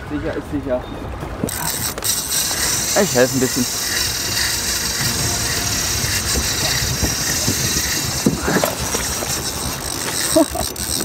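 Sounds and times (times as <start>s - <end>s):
boat motor running: 1.4s - 11.0s.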